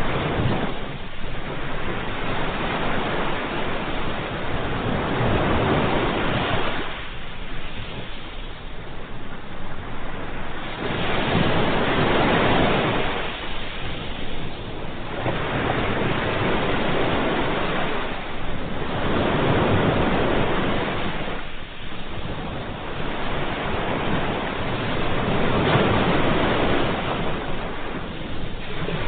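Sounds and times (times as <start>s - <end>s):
ocean waves breaking on shore: 0.0s - 29.0s.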